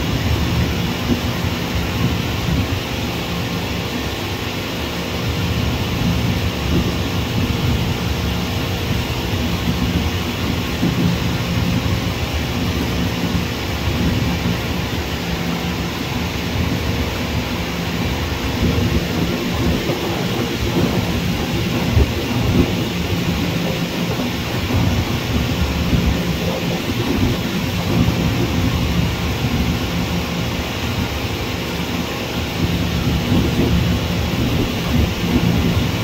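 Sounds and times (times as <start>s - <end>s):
distant jet airliners roaring: 0.0s - 36.0s
wind buffeting microphone: 0.0s - 36.0s.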